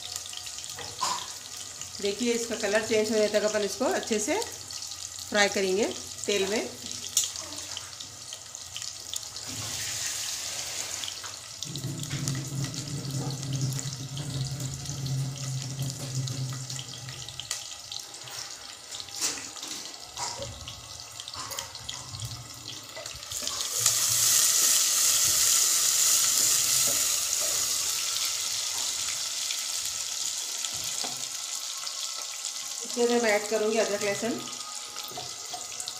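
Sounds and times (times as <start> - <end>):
onions sizzling in hot oil: 0.0 - 35.9.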